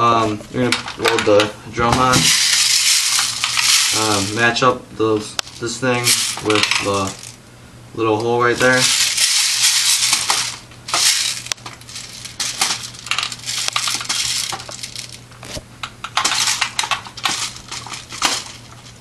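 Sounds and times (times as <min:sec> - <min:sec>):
drum magazine rattling and scraping: 0:00.6 - 0:04.6, 0:05.4 - 0:07.4, 0:08.4 - 0:19.0.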